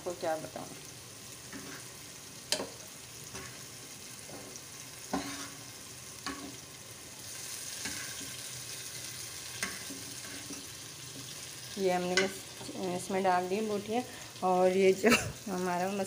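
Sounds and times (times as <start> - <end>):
food sizzling in metal pot: 0.0 - 16.0.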